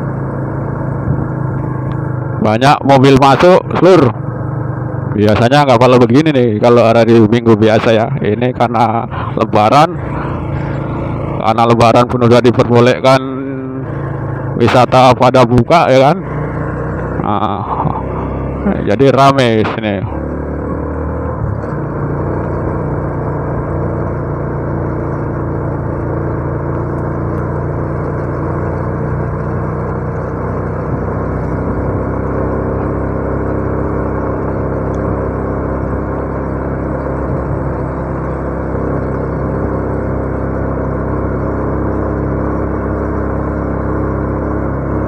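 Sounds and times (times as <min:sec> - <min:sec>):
motorcycle engine running: 0:00.0 - 0:45.0
road and wind noise: 0:00.0 - 0:45.0.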